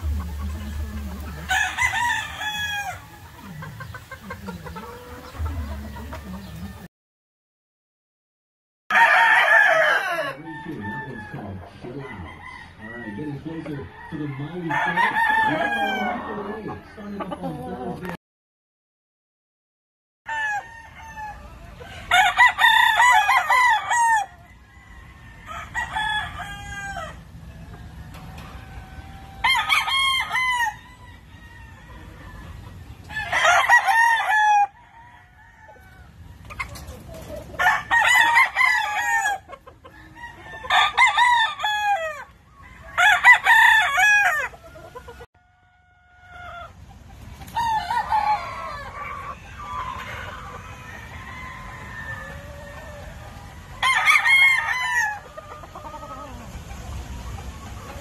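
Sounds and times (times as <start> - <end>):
roosters crowing: 0.0 - 6.9, 8.9 - 18.1, 20.3 - 58.0.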